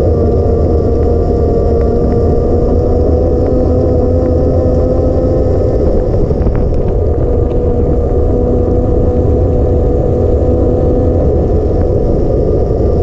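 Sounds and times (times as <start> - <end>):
steady hum: 0.0 - 13.0
wind and road rumble: 0.0 - 13.0.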